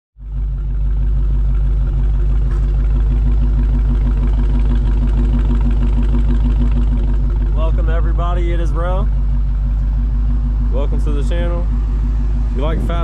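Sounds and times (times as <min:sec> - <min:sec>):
car engine idling: 0:00.2 - 0:13.0.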